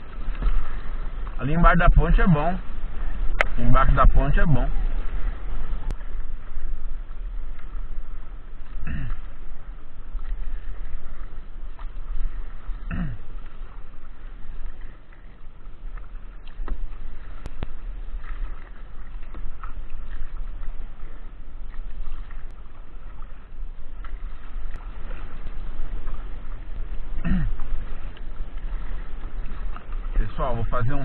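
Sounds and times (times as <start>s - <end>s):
paddle and water sloshing: 0.0s - 31.0s
wind rumble on microphone: 0.0s - 31.0s.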